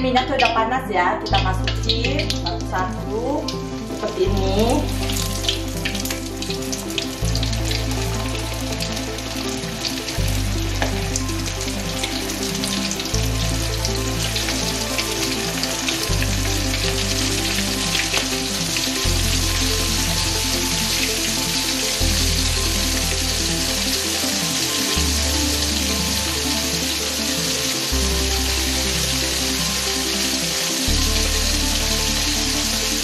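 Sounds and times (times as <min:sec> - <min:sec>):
background music with bass: 0:00.0 - 0:33.0
squid deep-frying in oil: 0:01.3 - 0:33.0.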